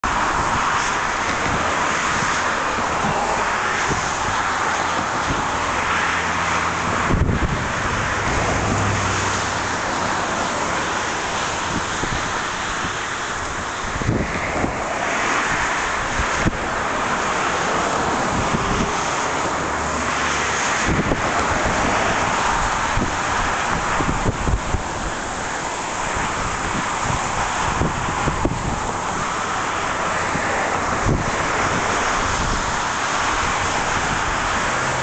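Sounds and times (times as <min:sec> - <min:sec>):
wind buffeting microphone: 0:00.0 - 0:05.8, 0:06.6 - 0:19.9, 0:20.7 - 0:35.0.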